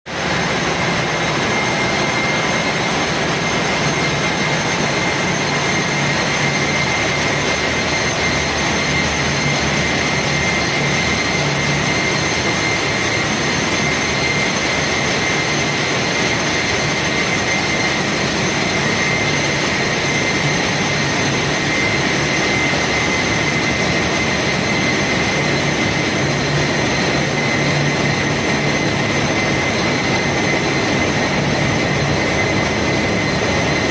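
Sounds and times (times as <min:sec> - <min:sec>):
engine room machinery roaring: 0:00.0 - 0:33.9.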